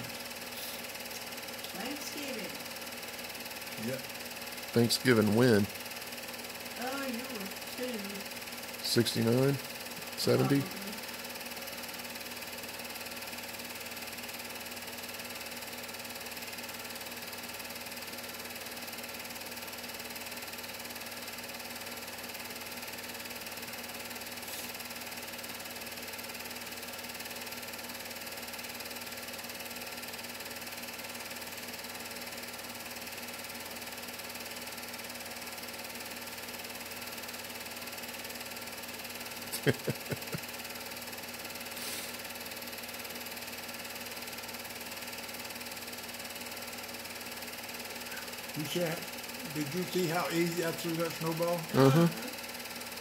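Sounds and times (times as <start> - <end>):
film projector whirring: 0.0 - 53.0
projector hum: 0.0 - 53.0.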